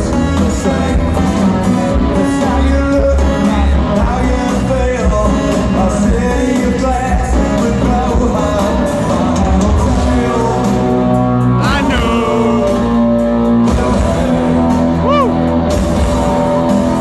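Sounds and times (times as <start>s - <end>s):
man singing: 0.0s - 15.4s
live rock band: 0.0s - 17.0s.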